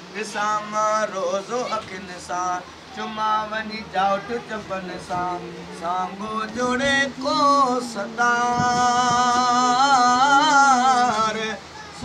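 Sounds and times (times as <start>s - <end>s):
man chanting: 0.1s - 12.0s.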